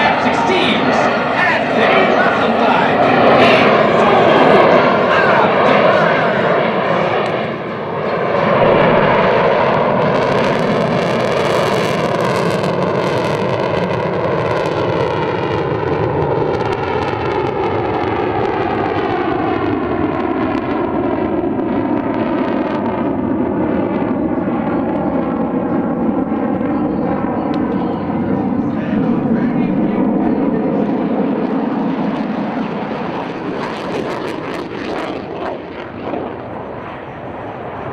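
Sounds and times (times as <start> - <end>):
jet engines flying past: 0.0 - 37.9.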